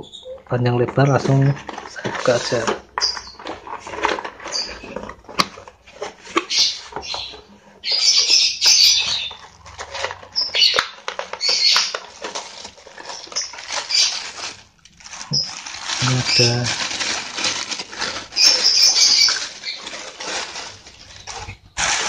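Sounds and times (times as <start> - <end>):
plastic bag crinkling: 0.8 - 22.0.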